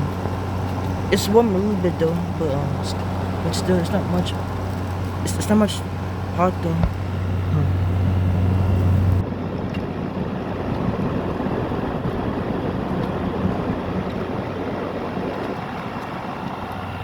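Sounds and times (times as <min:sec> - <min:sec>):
air conditioner fan rushing: 0:00.0 - 0:17.0
low hum: 0:00.0 - 0:17.0.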